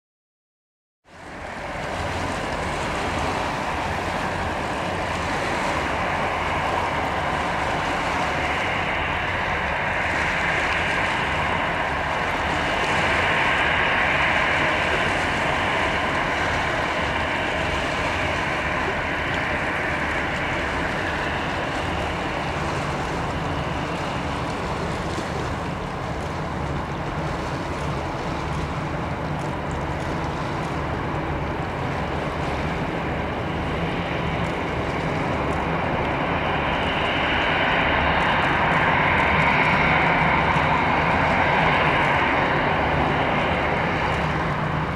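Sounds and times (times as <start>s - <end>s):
jet engines running: 1.1s - 44.9s
wind on microphone: 1.1s - 44.9s.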